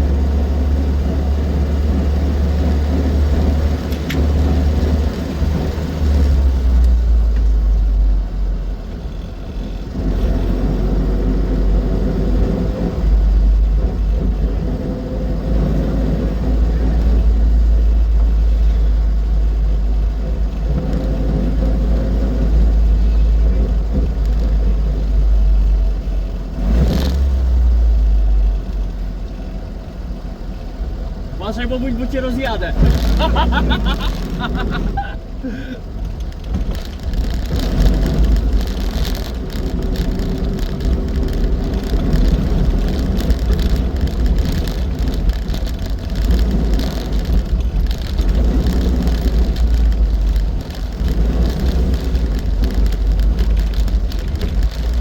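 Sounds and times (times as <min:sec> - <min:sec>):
car engine running under load: 0:00.0 - 0:55.0
road noise: 0:00.0 - 0:55.0.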